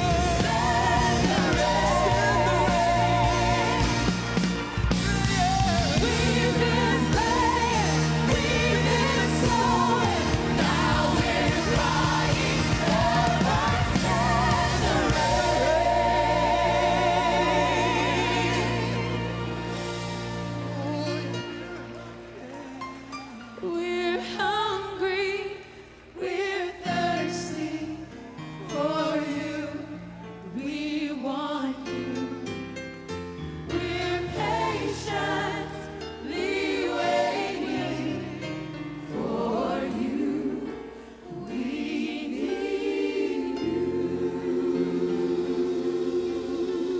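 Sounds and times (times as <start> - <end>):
gospel choir singing: 0.0 - 46.9.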